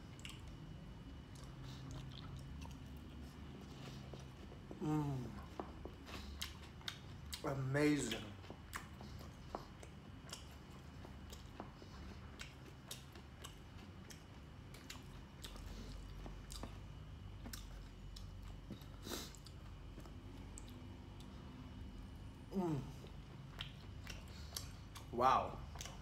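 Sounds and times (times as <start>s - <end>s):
person chewing: 0.0s - 26.0s.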